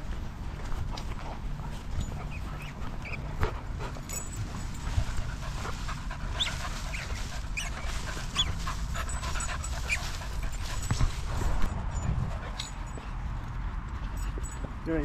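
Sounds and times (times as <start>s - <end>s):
dog panting: 0.4s - 13.4s.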